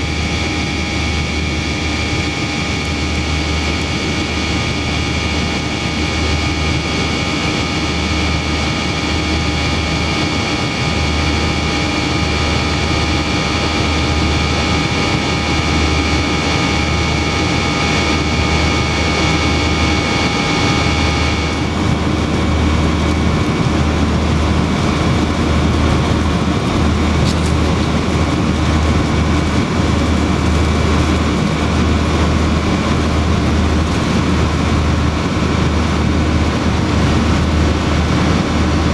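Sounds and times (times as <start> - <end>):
airliner cabin engine rush: 0.0 - 38.9
high whining engine tones: 0.0 - 38.9.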